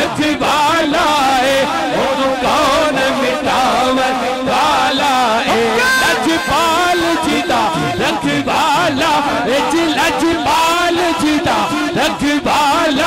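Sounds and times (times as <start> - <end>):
man chanting slow melody: 0.0 - 13.0.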